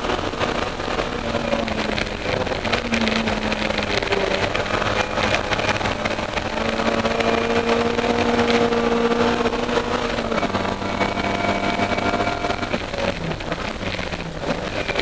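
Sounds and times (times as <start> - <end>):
racing car engine at full throttle: 0.0 - 15.0.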